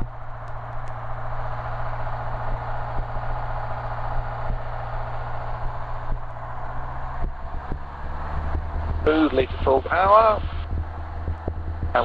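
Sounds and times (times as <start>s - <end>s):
propeller plane engine running: 0.0s - 12.0s.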